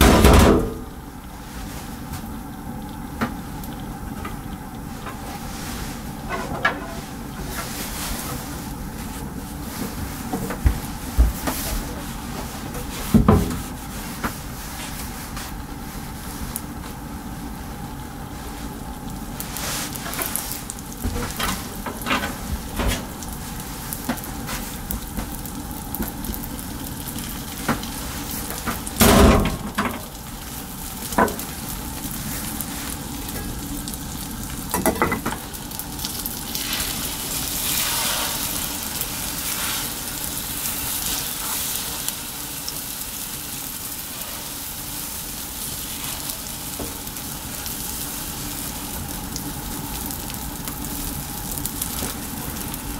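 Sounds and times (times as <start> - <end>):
egg sizzling in pan: 0.0 - 52.9.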